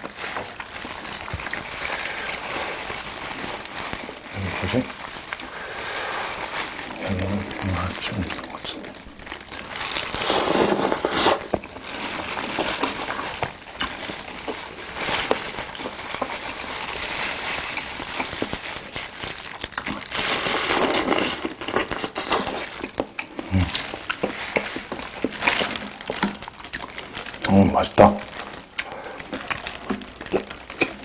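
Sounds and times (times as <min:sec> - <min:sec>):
plastic gloves crinkling: 0:00.0 - 0:31.0
shells cracking and crunching: 0:00.0 - 0:31.0.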